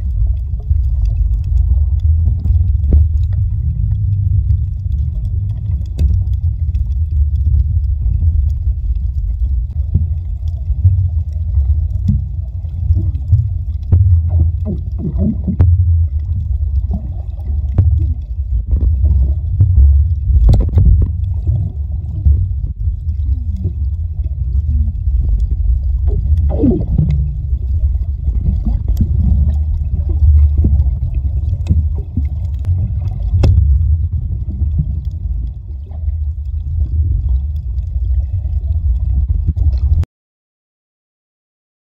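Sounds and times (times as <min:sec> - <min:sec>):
underwater clicks: 0:00.0 - 0:35.6
squeaky underwater gurgles: 0:00.0 - 0:36.9
underwater low rumble: 0:00.0 - 0:40.1.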